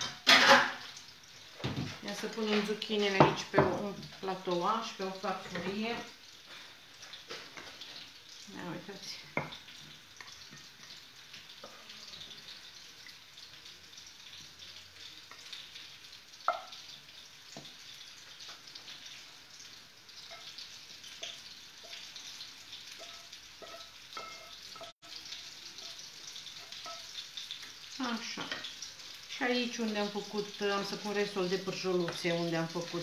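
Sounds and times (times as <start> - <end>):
food frying in hot oil: 0.0 - 33.0.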